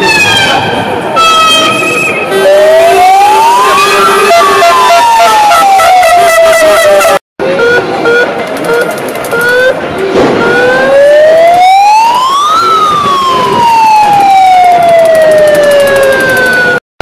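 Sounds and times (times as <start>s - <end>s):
siren wailing: 0.0s - 8.2s, 9.4s - 16.8s
crowd noise: 0.0s - 16.8s.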